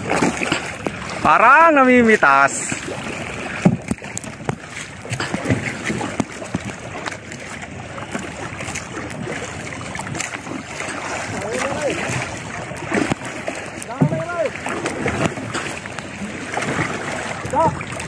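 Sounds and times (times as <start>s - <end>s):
water splashing against boat: 0.0s - 18.0s.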